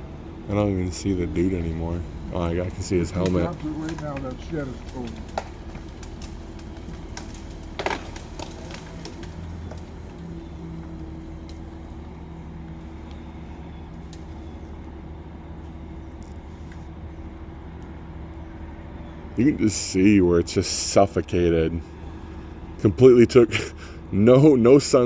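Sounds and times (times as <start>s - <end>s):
distant diesel engine hum: 0.0s - 25.0s.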